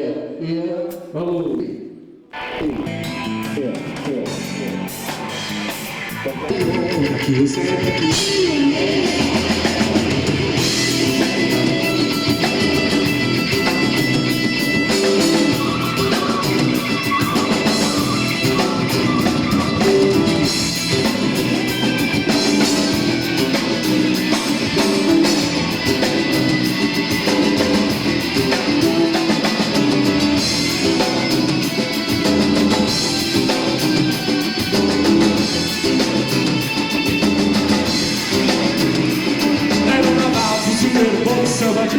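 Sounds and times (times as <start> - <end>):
electric guitar: 2.3 - 41.9
drum kit: 2.4 - 41.9.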